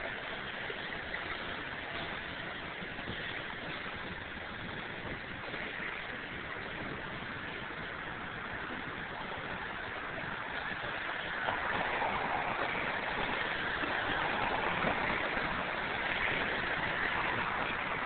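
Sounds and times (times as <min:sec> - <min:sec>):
street traffic rushing: 0:00.0 - 0:18.0.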